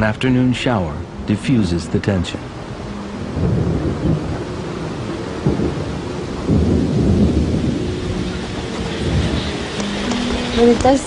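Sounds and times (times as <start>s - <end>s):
rain falling: 0.0s - 11.0s
thunder rumbling: 0.0s - 11.0s.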